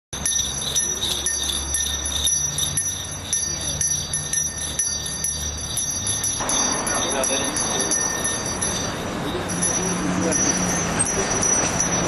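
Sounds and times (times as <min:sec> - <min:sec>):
jingle bells shaken: 0:00.2 - 0:12.0.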